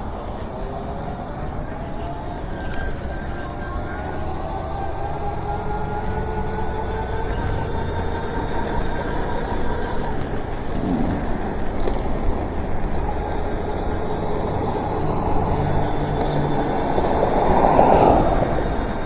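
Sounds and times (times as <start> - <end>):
electric motor whine: 0.0 - 19.0
tyres on wet pavement: 0.0 - 19.0.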